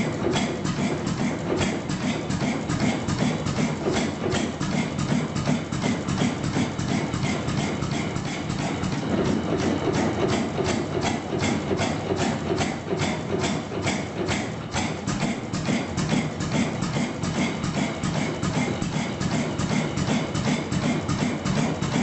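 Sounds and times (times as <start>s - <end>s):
stationary engine running: 0.0s - 22.0s.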